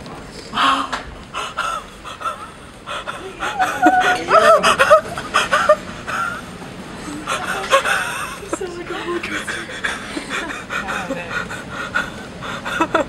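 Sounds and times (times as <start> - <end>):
steady rushing noise: 0.0 - 13.0
people laughing and gasping: 0.5 - 13.0
excited cries: 1.4 - 13.0.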